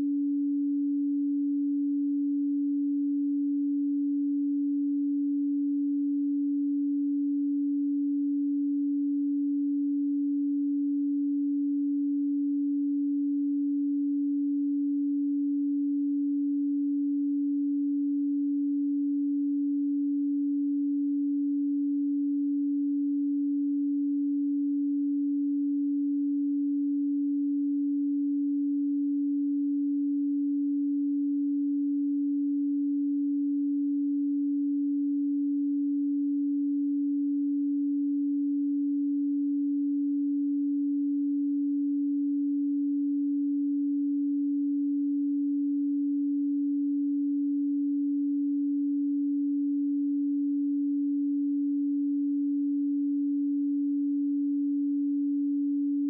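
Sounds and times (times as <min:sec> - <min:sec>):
steady sine tone: 0:00.0 - 0:56.0.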